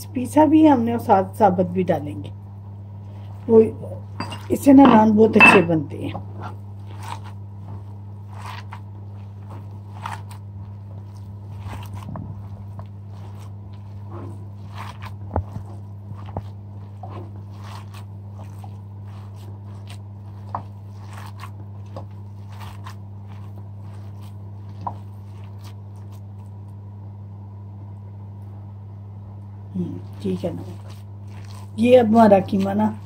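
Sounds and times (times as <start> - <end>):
hands kneading wet meat: 2.8 - 28.6, 29.7 - 33.0.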